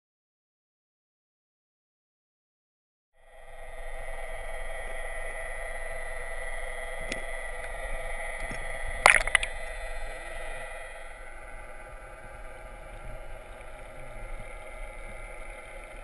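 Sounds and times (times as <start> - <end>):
boat motor hum underwater: 3.2 - 16.0.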